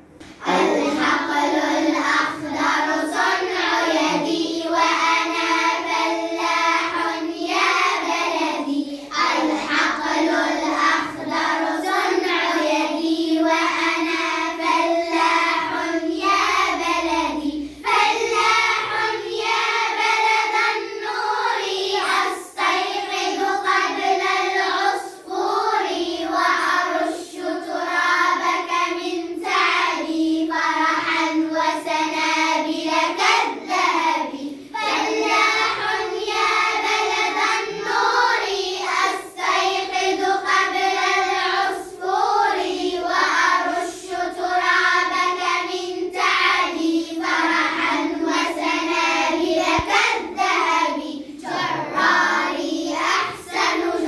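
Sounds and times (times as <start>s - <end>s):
children singing in unison: 0.4s - 54.0s.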